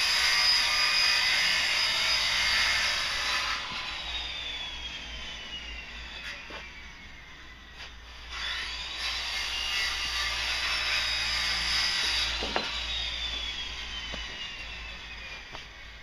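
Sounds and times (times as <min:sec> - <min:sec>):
power drill whining into wood: 0:00.0 - 0:16.0.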